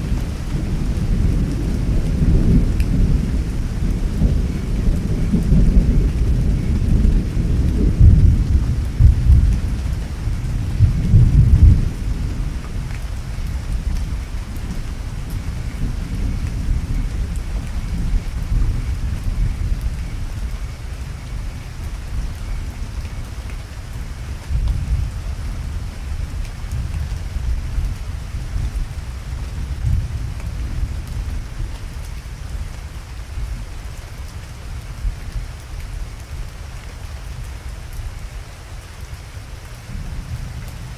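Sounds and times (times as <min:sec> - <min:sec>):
heavy rain: 0:00.0 - 0:40.9
low rumble of thunder: 0:00.0 - 0:40.9.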